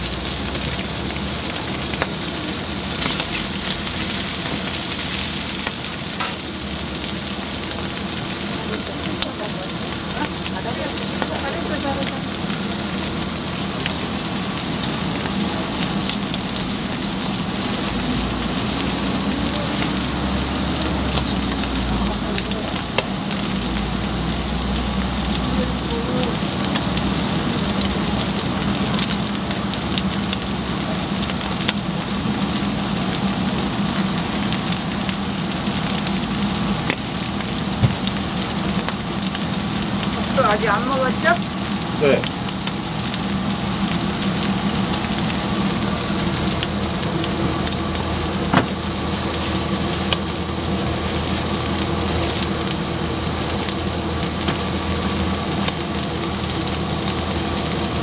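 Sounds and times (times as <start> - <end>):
meat sizzling on a griddle: 0.0 - 58.0.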